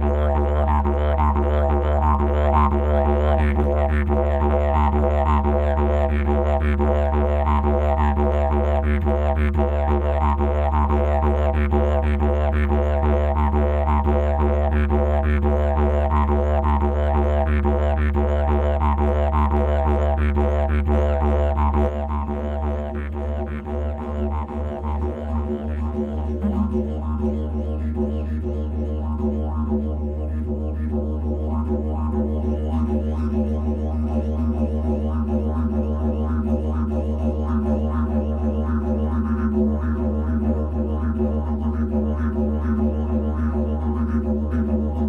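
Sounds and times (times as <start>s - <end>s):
didgeridoo drone: 0.0s - 45.0s.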